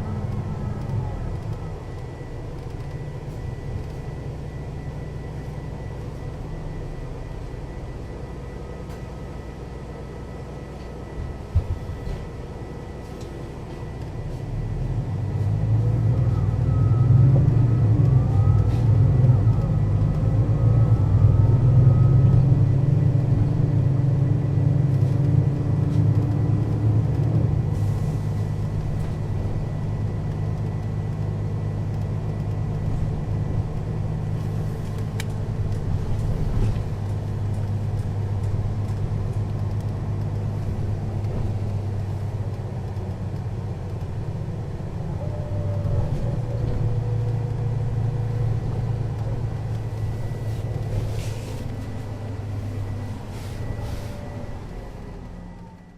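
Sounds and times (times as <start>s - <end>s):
bus engine accelerating: 0.0s - 55.9s
gearbox whine: 0.0s - 55.9s.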